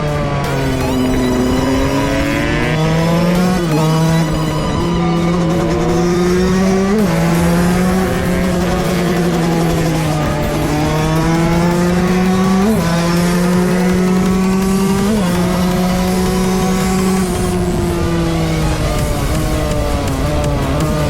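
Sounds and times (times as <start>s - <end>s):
two-stroke dirt bike engine revving: 0.0s - 21.0s.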